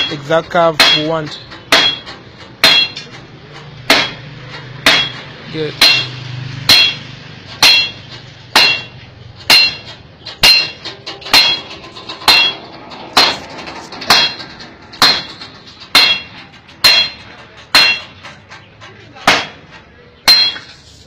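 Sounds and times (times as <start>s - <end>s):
hammer striking hot metal: 0.0s - 18.4s, 19.2s - 20.8s.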